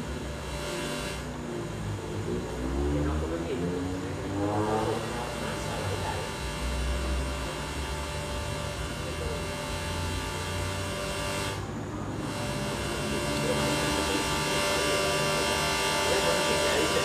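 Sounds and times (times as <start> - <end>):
buzzing electronic drone: 0.0 - 17.0.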